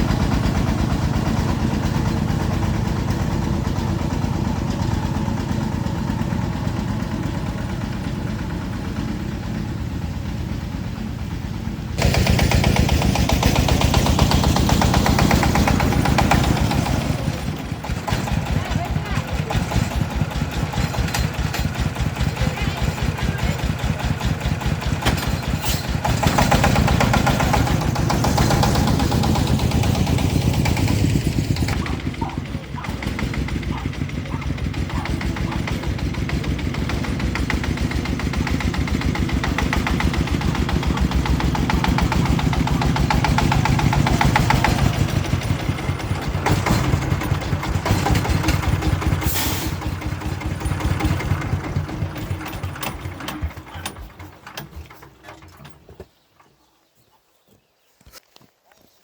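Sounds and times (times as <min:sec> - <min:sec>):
vehicle engine running: 0:00.0 - 0:55.8.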